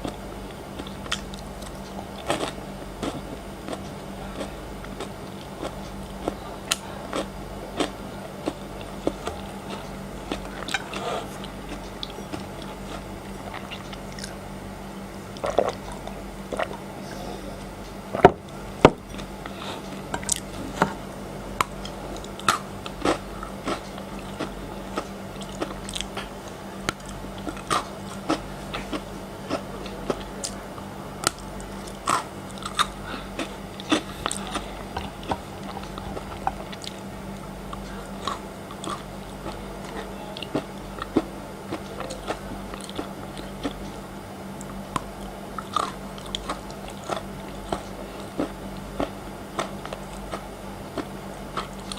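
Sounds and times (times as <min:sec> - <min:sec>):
chocolate crunching and chewing: 0:00.0 - 0:14.5, 0:15.3 - 0:16.9, 0:18.2 - 0:44.0, 0:44.6 - 0:51.9
low steady hum: 0:00.0 - 0:51.9.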